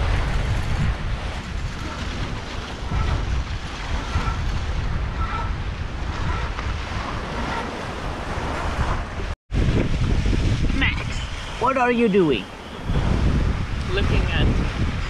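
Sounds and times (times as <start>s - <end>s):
rush of the sea: 0.0s - 15.0s
wind buffeting microphone: 0.0s - 15.0s.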